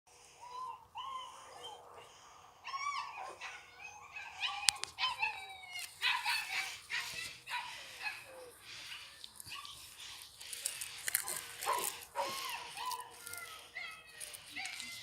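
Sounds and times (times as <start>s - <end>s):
puppies whining and yipping: 0.1s - 15.0s.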